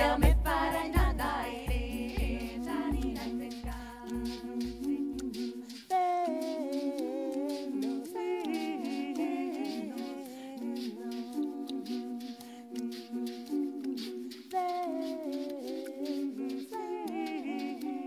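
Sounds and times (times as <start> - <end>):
women's choir singing a cappella: 0.0 - 18.0.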